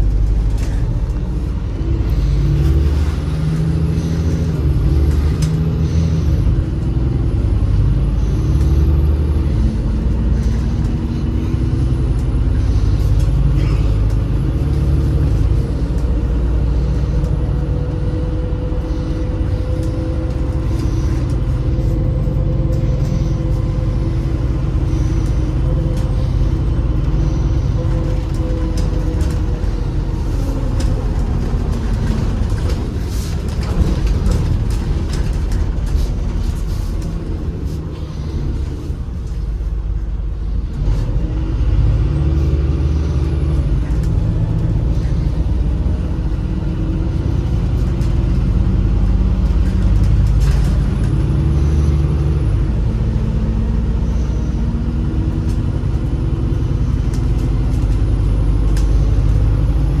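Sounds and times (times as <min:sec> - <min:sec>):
bus engine: 0:00.0 - 1:00.0
road noise: 0:00.0 - 1:00.0.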